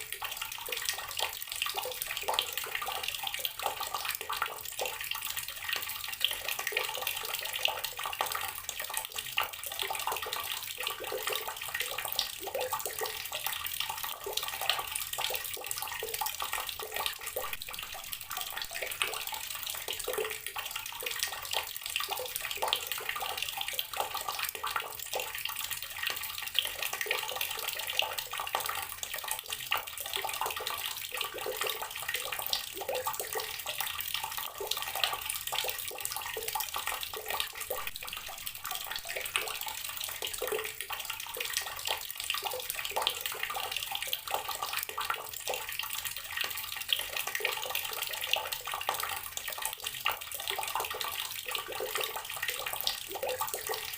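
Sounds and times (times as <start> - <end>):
water running from a tap: 0.0 - 53.9.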